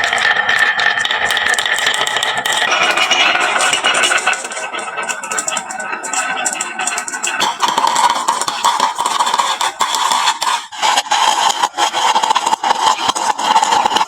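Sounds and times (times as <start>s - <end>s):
marbles rattling down wooden track: 0.0s - 14.0s.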